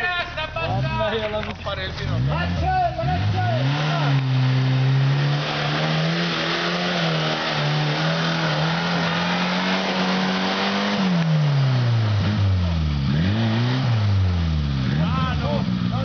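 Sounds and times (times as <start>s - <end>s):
engine revving hard: 2.0s - 16.0s.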